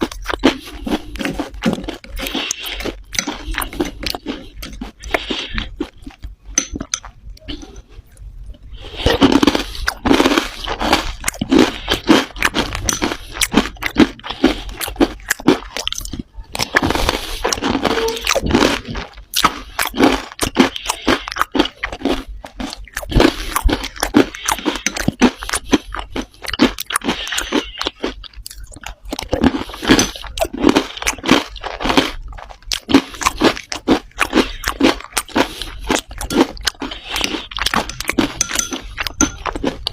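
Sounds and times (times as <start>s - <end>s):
clay crunching as chewed: 0.0s - 39.9s.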